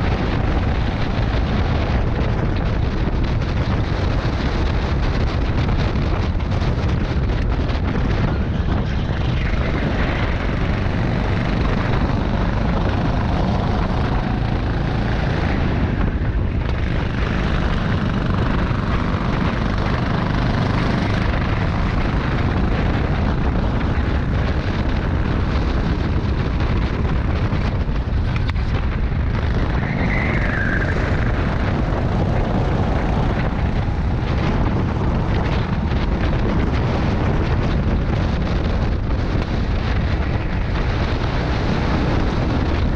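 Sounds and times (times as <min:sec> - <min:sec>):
go-kart engine drone: 0:00.0 - 0:42.9
wind buffeting microphone: 0:00.0 - 0:42.9.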